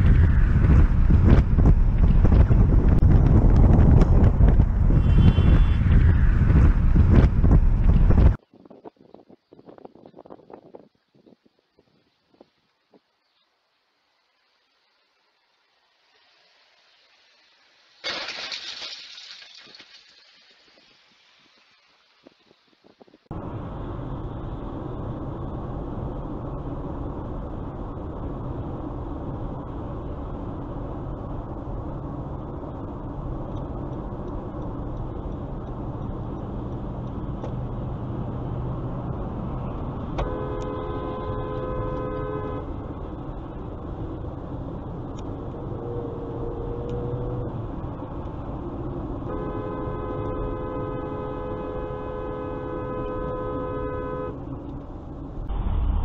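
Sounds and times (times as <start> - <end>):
car road and engine noise: 0.0 - 19.4, 20.7 - 56.0.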